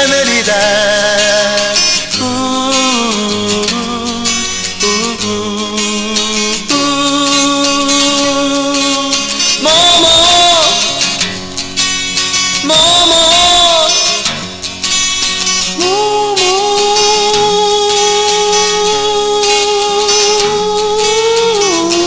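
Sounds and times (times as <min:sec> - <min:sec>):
folk-pop song with acoustic guitar: 0:00.0 - 0:22.0.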